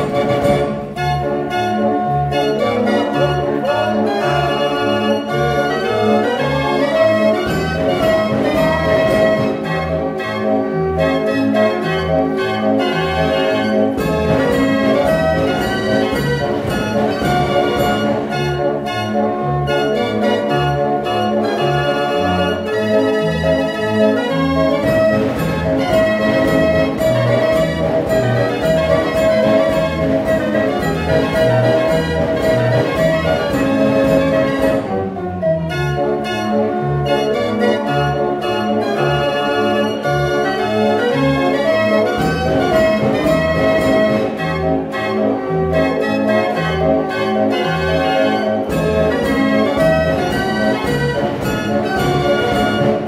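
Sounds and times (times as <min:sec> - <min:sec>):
street organ playing: 0:00.0 - 0:53.0.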